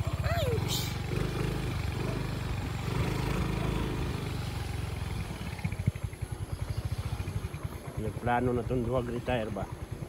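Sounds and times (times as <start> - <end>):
small motorcycle engine: 0.0 - 10.0.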